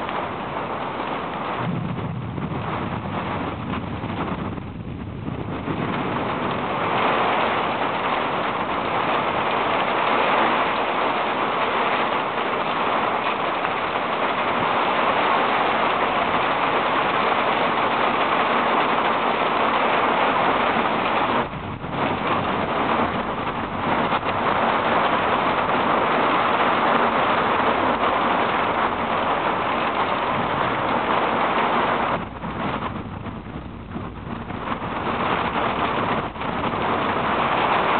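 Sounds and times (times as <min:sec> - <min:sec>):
heavy rain hissing: 0:00.0 - 0:37.9.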